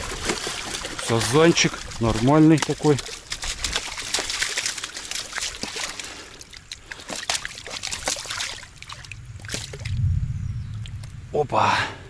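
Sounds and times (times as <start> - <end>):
fish thrashing water: 0.0 - 10.0.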